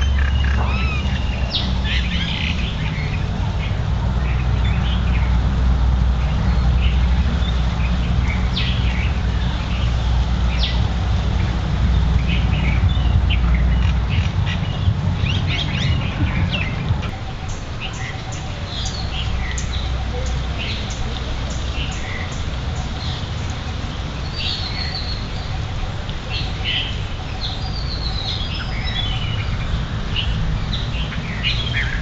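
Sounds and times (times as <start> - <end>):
birds chirping: 0.0 - 32.0
steady low rumble: 0.0 - 32.0.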